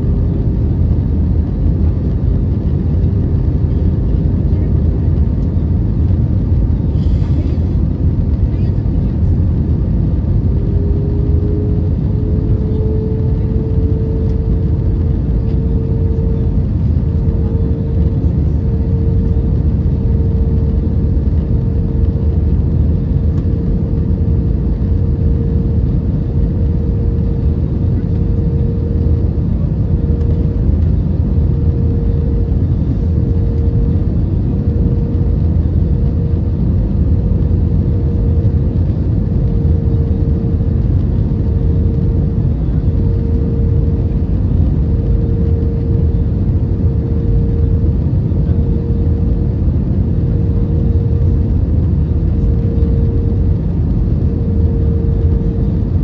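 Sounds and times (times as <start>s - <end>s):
engine whine: 0.0s - 56.0s
jet engine and airflow roar: 0.0s - 56.0s.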